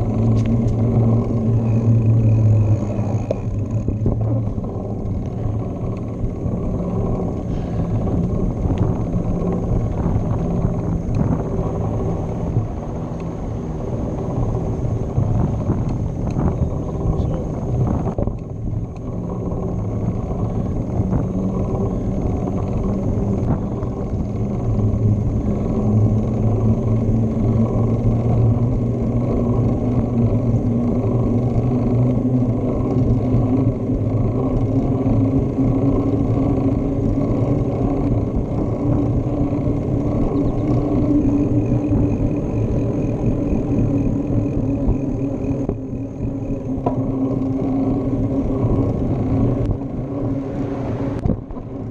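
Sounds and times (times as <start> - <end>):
bicycle rolling on pavement: 0.0 - 51.9
faint hum: 0.0 - 51.9.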